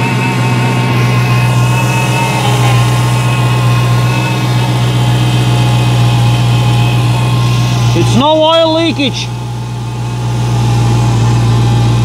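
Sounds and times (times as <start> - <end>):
car engine idling: 0.0 - 12.0
steady whining tones: 0.0 - 12.0.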